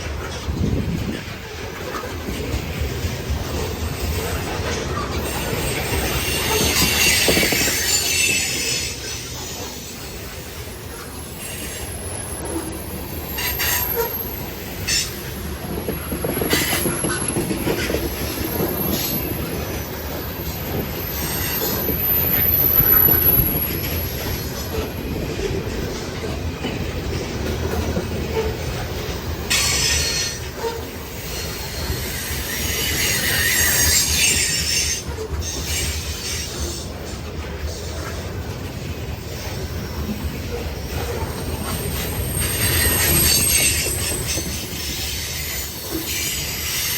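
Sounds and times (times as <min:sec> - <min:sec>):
train cars rumbling past: 0:00.0 - 0:46.9
train wheels squealing: 0:03.8 - 0:37.0, 0:37.6 - 0:46.9.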